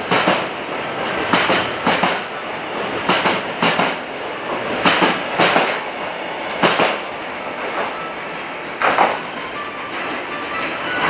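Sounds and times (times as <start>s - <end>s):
wheels clacking over rail joints: 0.0s - 8.0s, 8.7s - 10.8s
freight train rumbling past: 0.0s - 11.0s.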